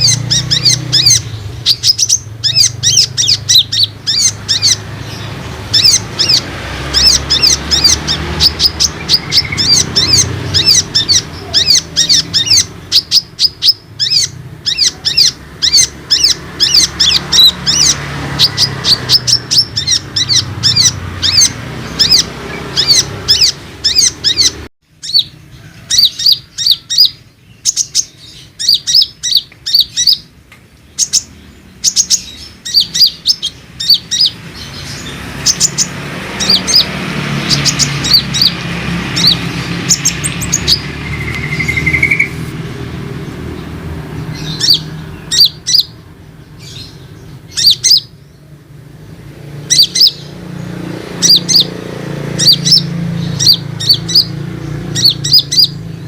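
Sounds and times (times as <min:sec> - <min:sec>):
sunbird chirping song: 0:00.0 - 0:56.0.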